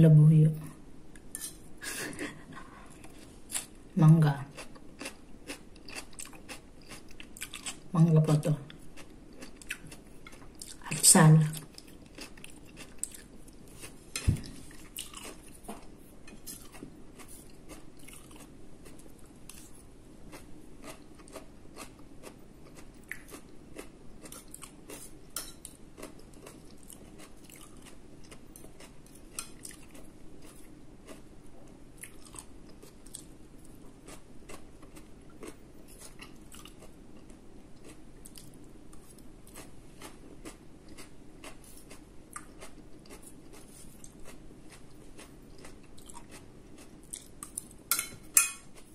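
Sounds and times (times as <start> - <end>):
person chewing food: 1.2 - 3.8, 4.5 - 7.9, 8.7 - 10.8, 11.6 - 48.9.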